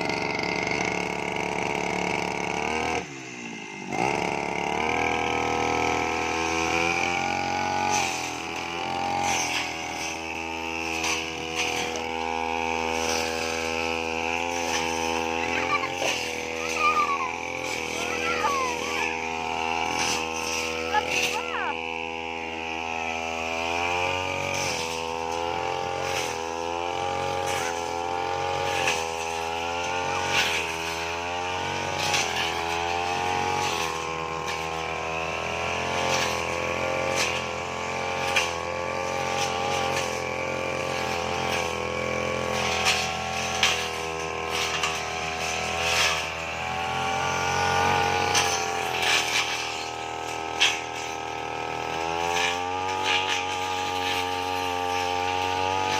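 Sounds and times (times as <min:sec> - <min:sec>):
brush cutter engine running: 0:00.0 - 0:55.9.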